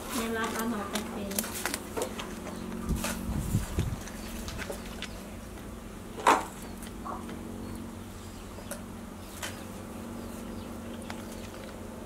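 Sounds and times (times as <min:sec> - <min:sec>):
porcupine gnawing food: 0:00.0 - 0:12.0
steady low hum: 0:00.0 - 0:12.0.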